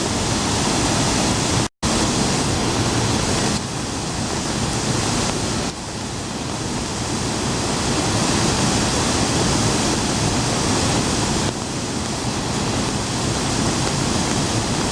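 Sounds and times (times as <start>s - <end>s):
water roaring from a dam: 0.0s - 14.9s.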